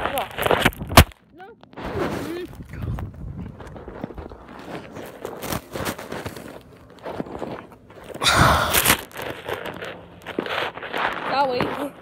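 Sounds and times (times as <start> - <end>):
snow crunching against microphone: 1.7 - 12.0.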